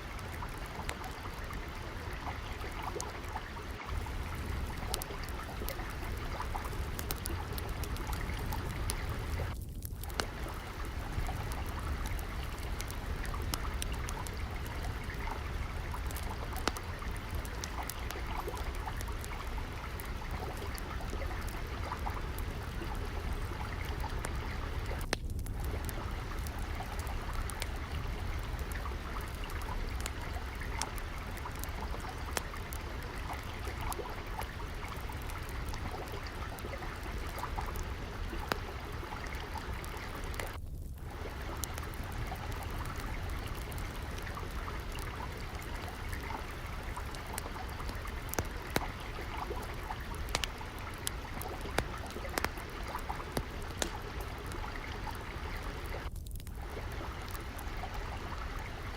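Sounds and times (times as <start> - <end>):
water trickling: 0.0 - 58.9
wood fire crackling and popping: 0.0 - 58.9.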